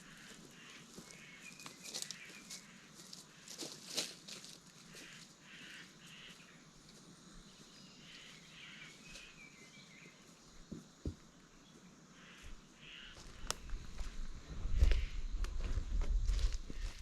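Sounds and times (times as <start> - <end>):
distant bird calls: 0.0 - 14.1.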